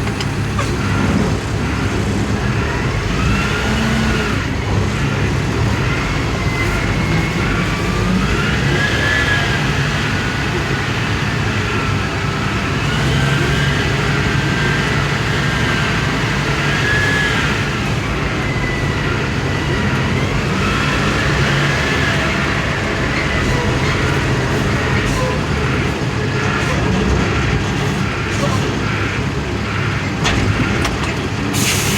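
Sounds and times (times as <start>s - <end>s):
truck diesel engine running: 0.0s - 31.9s.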